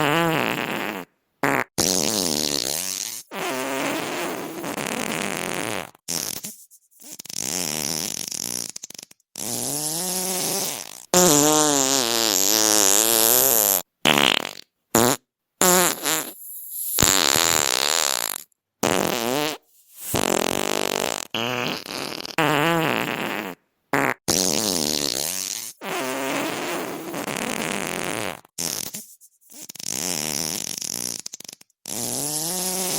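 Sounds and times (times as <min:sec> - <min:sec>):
farts: 0:00.0 - 0:32.9.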